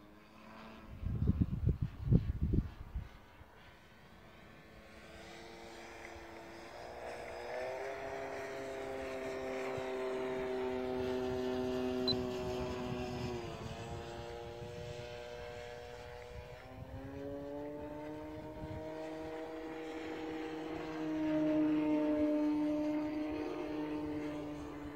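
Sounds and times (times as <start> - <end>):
model airplane motor whine: 0.0 - 24.9.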